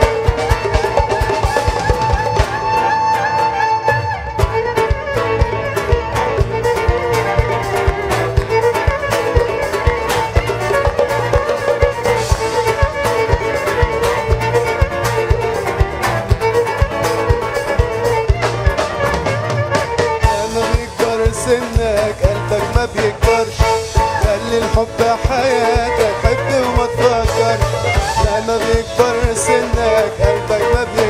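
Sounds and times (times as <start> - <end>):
drums beating: 0.0 - 31.0
live band playing: 0.0 - 31.0.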